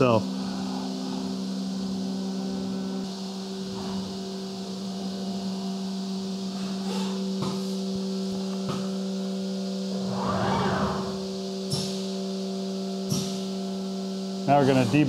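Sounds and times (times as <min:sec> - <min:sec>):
milling spindle humming: 0:00.0 - 0:15.0.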